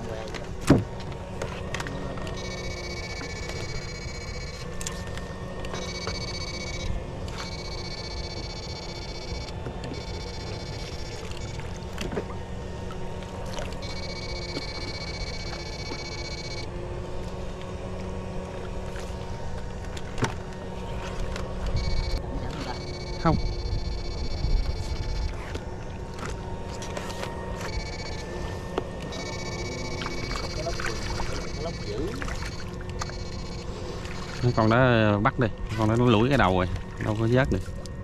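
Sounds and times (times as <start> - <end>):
high-pitched electric whine: 0.0 - 38.0
low hum: 0.0 - 38.0.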